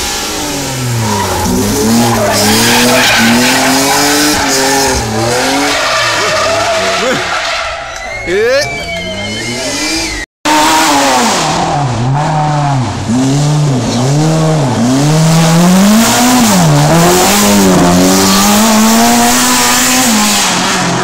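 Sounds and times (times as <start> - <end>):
rally car engine revving: 0.0 - 7.4, 8.7 - 21.0.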